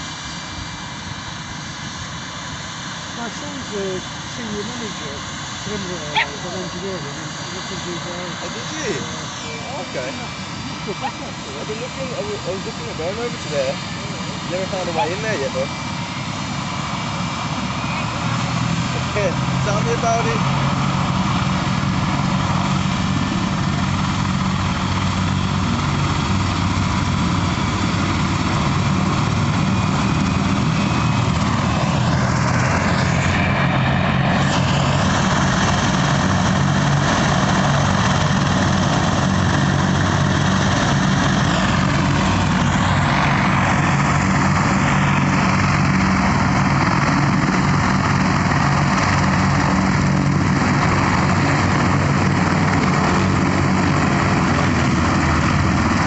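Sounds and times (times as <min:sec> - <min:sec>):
aircraft engine running: 0:00.0 - 0:56.0.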